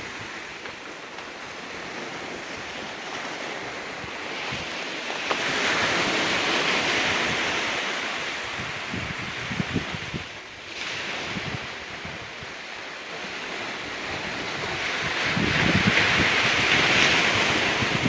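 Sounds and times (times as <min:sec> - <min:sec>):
waves washing against rocks: 0:00.0 - 0:18.0
wind buffeting microphone: 0:00.0 - 0:18.0.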